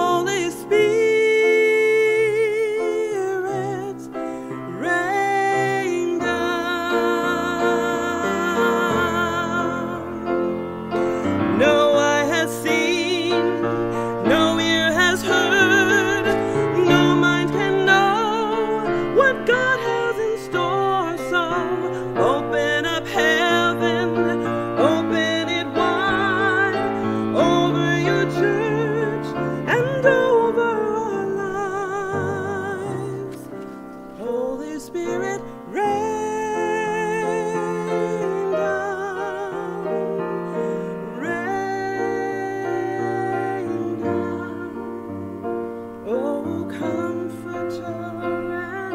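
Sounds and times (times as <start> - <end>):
piano accompaniment: 0.0 - 48.9
woman singing with vibrato: 4.7 - 40.3, 41.0 - 45.4.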